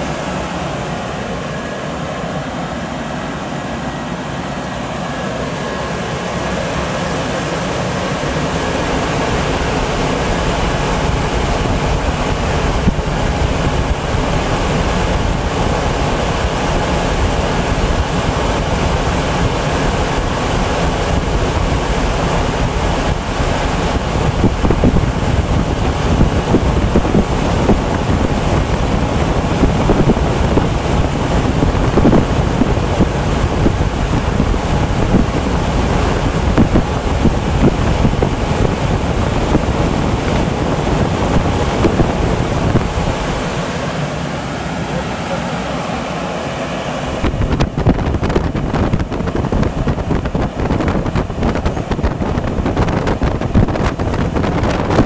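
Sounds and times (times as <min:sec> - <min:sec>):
industrial fan running: 0:00.0 - 0:55.0.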